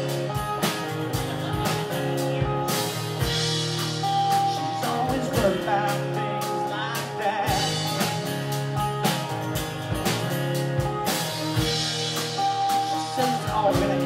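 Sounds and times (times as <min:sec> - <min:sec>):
drum kit steady beat: 0:00.0 - 0:14.0
guitars: 0:00.0 - 0:14.0
live band playing: 0:00.0 - 0:14.0.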